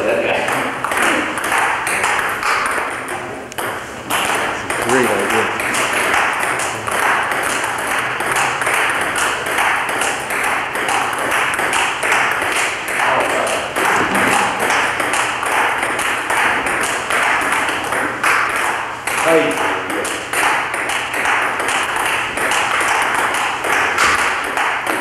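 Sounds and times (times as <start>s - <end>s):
ping-pong ball clicking off paddles: 0.3s - 25.0s
ball bouncing on table: 0.4s - 25.0s.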